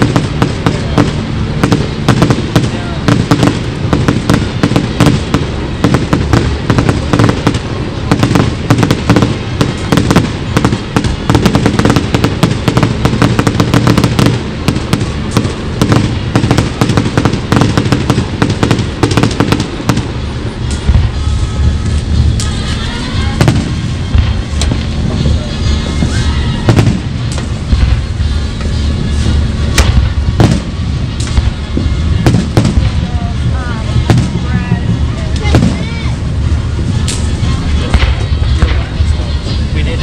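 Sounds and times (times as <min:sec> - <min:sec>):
deep fireworks booms: 0:00.0 - 0:40.0
fireworks crackling and popping: 0:00.0 - 0:40.0.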